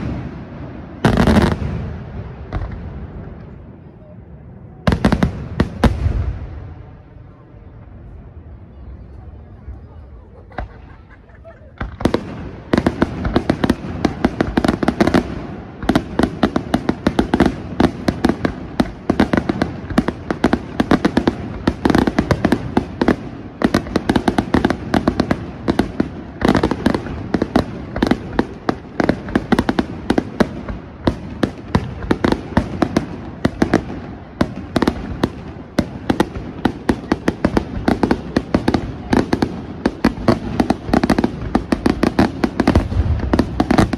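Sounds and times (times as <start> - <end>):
fireworks bursting with sharp bangs: 0.0 - 43.9.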